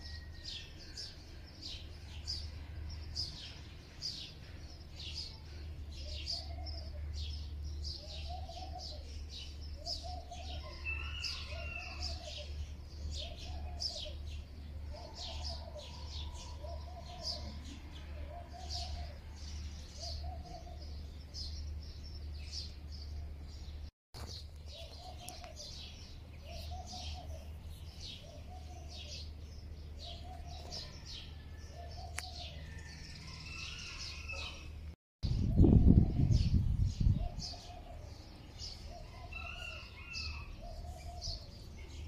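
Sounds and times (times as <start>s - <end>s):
small birds chirping: 0.8s - 42.0s.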